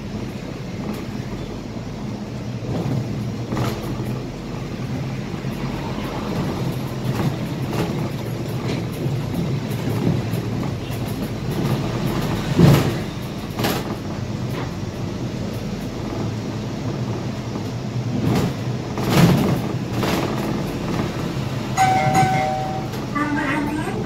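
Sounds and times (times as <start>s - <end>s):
bus engine drone: 0.0s - 24.0s
road noise: 0.0s - 24.0s.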